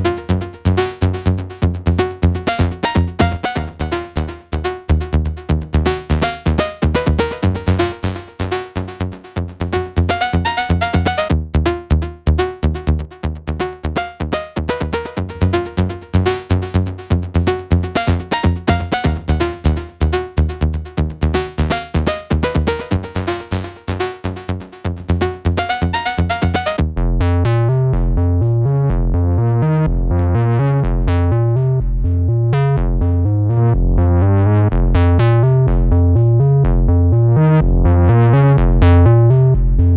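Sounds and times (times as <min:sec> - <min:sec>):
drum machine beat with synths: 0:00.0 - 0:26.8, 0:34.7 - 0:39.9
synth bass line: 0:00.0 - 0:39.9.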